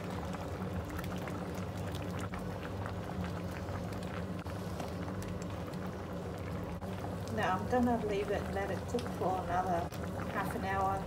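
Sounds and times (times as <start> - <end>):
sauce simmering and bubbling: 0.0 - 11.0
steady low hum: 0.0 - 11.0.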